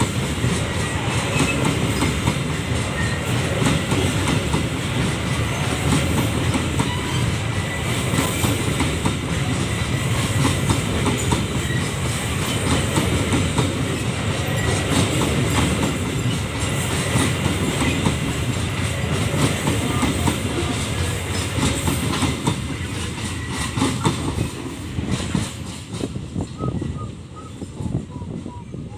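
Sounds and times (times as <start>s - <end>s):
train wheels clattering over rail joints: 0.0s - 27.6s
heavy train rumble: 0.0s - 28.9s.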